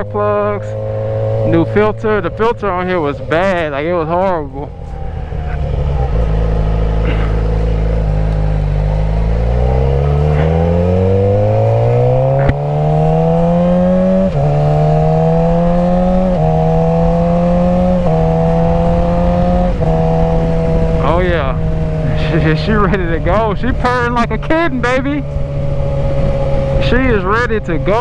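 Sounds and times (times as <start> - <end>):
motorcycle engine accelerating: 0.0 - 28.0
wind rush: 0.8 - 28.0.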